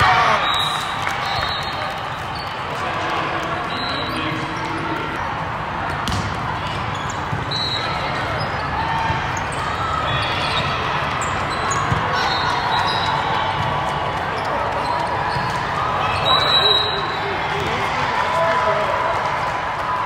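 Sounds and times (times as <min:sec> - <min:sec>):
murmur of distant voices: 0:00.0 - 0:20.0
volleyballs hit and bouncing: 0:00.8 - 0:16.5, 0:17.3 - 0:20.0.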